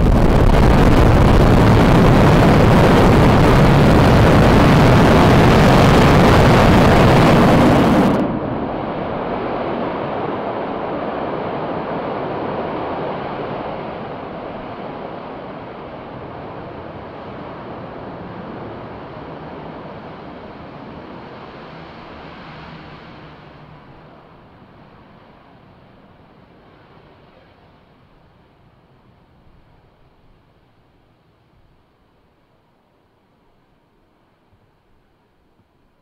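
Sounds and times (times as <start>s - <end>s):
rocket engines rumbling: 0.0s - 28.9s.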